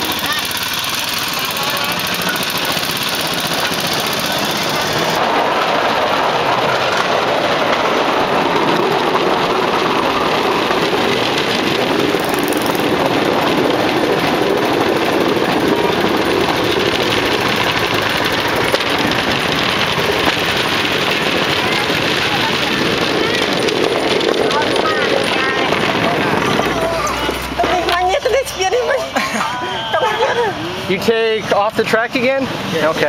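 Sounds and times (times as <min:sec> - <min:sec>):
small engine running: 0:00.0 - 0:29.0
wheels rolling on rails: 0:00.0 - 0:33.0.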